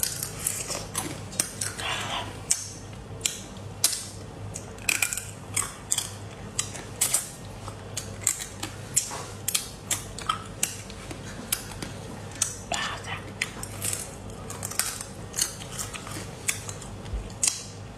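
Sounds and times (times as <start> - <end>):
crab shells crunching while eating: 0.0 - 17.8.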